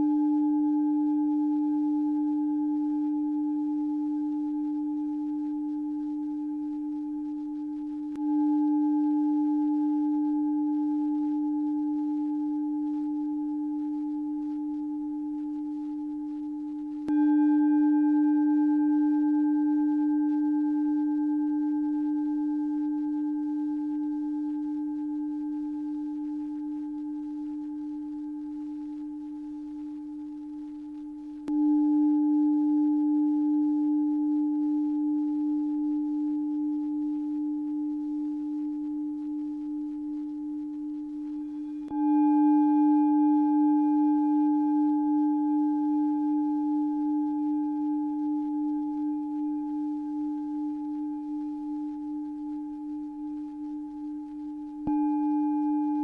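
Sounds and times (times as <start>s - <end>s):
singing bowl ringing: 0.0s - 56.0s.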